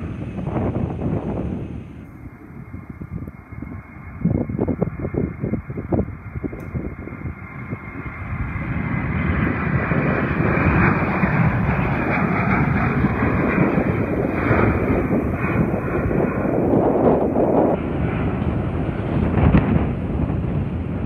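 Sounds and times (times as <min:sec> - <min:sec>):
jet airliner roar: 0:00.0 - 0:21.0.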